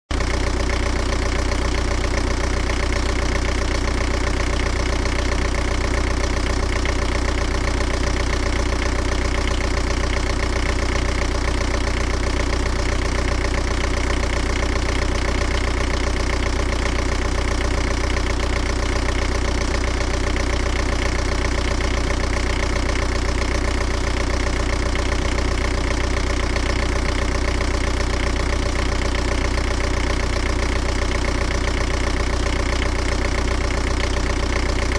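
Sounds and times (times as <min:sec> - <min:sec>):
engine idling: 0:00.1 - 0:34.9.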